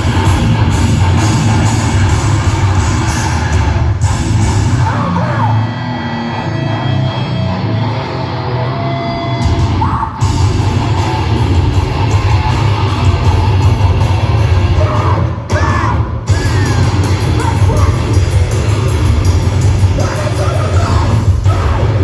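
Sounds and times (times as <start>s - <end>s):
heavy rock band playing live: 0.0s - 22.0s.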